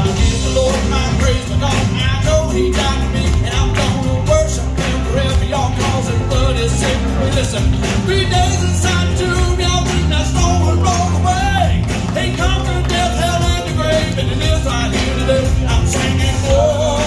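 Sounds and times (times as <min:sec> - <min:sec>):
instrumental accompaniment with bass: 0:00.0 - 0:17.0
man singing gospel: 0:00.0 - 0:17.0.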